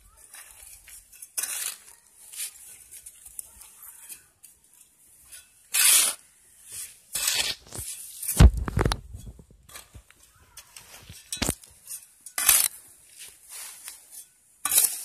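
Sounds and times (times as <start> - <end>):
gritty scraping of soil: 0.0 - 15.0.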